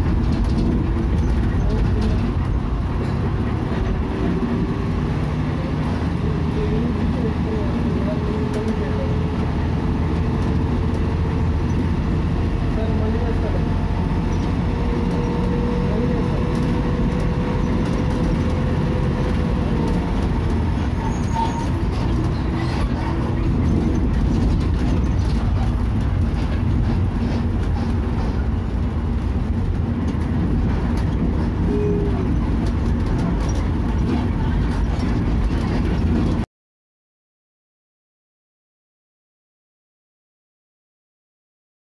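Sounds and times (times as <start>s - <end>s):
bus engine and road noise: 0.0s - 36.5s.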